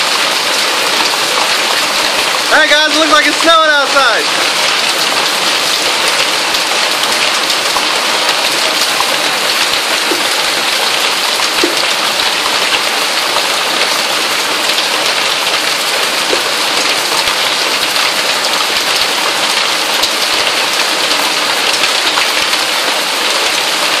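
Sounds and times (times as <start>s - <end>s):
heavy hail clattering: 0.0s - 24.0s.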